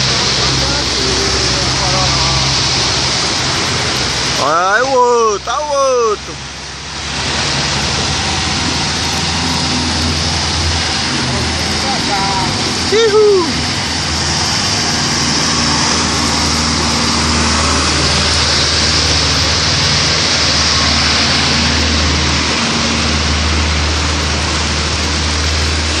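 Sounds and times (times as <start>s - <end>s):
floodwater rushing along street: 0.0s - 26.0s
vehicle engine low hum: 0.0s - 26.0s.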